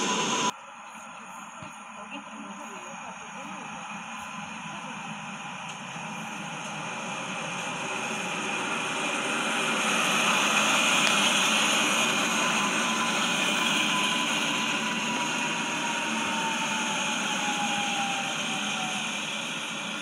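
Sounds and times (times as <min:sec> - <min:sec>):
electric train braking hiss: 0:00.0 - 0:00.5, 0:02.7 - 0:20.0.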